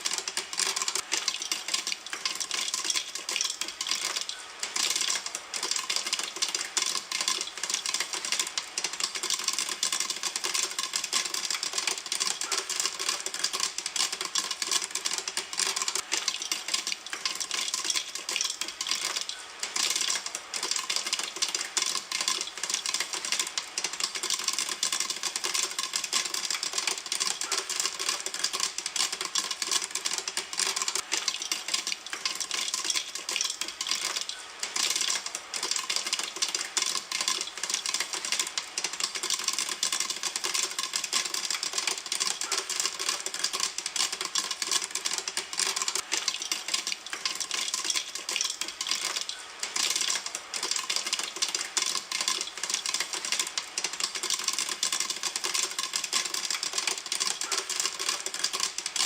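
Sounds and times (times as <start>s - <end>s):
popcorn popping in a pan: 0.0s - 59.0s.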